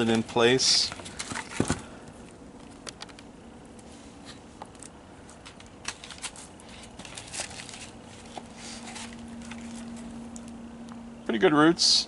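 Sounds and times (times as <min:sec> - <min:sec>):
hands rustling in dry potting soil: 0:00.0 - 0:02.8, 0:03.7 - 0:10.6.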